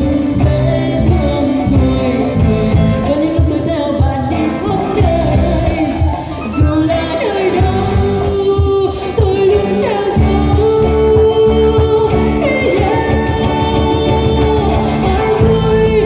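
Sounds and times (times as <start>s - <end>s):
live band playing pop song: 0.0s - 16.0s
woman singing: 0.0s - 16.0s.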